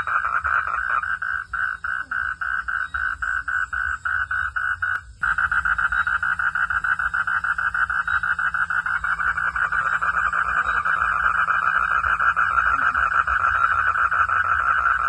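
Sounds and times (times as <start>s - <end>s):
frogs calling in chorus: 0.0s - 15.0s.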